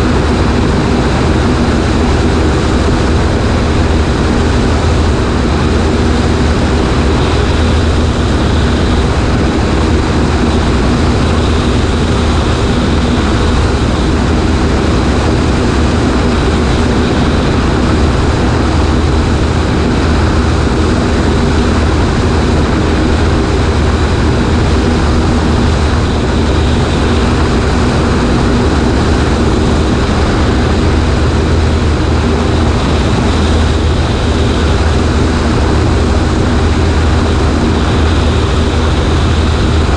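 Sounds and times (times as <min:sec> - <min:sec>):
air rushing over microphone: 0:00.0 - 0:39.9
light plane engine droning: 0:00.0 - 0:39.9.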